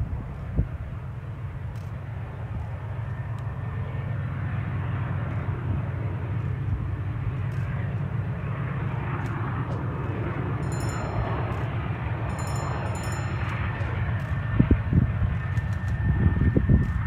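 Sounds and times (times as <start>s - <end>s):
distant diesel locomotives rumbling: 0.0s - 17.0s.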